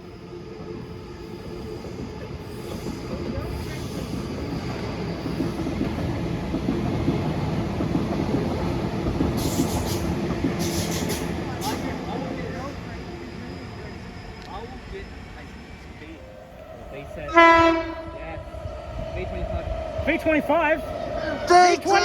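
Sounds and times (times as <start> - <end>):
electric train approaching: 0.0 - 22.0.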